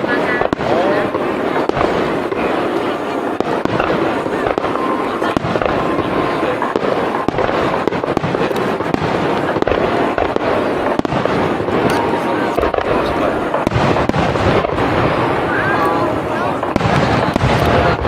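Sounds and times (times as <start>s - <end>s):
firework shells bursting: 0.0s - 18.0s
people's voices: 0.0s - 18.0s.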